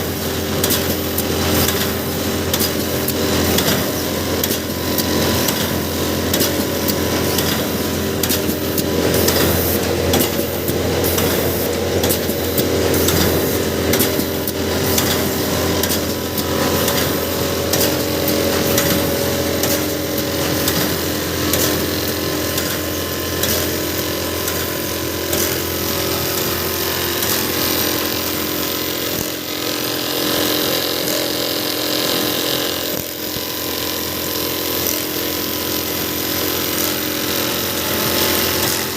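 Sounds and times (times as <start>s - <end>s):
machine drone with rattling clicks: 0.0s - 38.9s.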